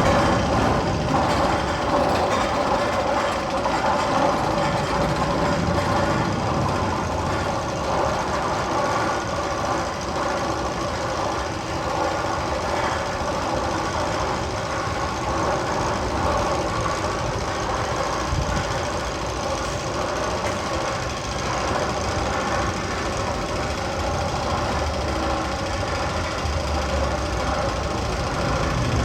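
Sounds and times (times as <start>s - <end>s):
mechanical rumble over speakers: 0.0s - 29.0s.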